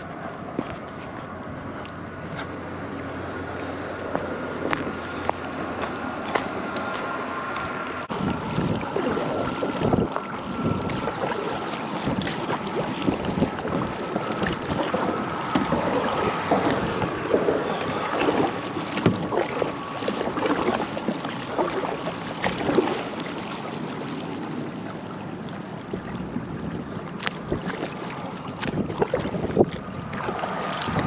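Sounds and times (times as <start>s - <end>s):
wind on microphone: 0.0s - 24.1s, 25.6s - 31.0s
water splashing against a kayak: 0.0s - 31.0s.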